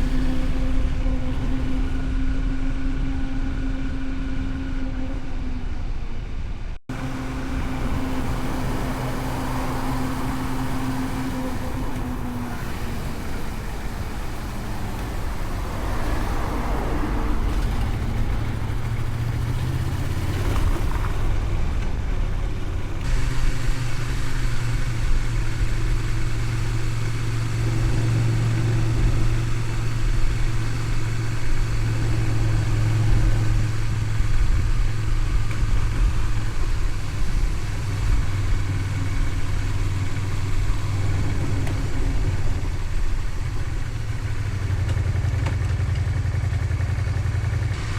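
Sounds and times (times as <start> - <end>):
motorcycle engine running: 0.0 - 6.2, 6.9 - 47.9
wind and road noise: 0.0 - 47.9.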